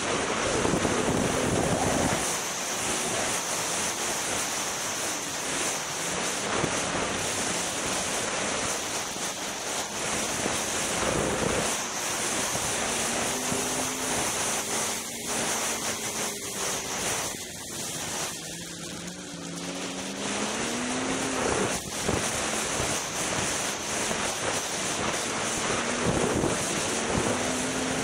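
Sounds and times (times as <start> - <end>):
snowmobile engine: 0.0 - 28.0
wind noise on microphone: 0.0 - 28.0.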